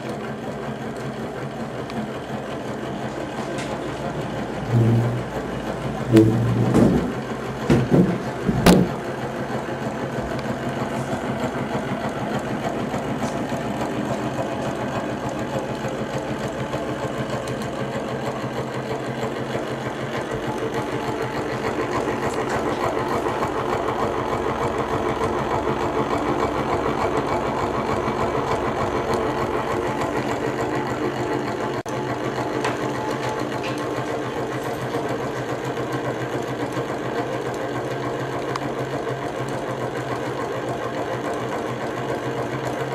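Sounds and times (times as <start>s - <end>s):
engine mechanical clatter: 0.0s - 42.9s.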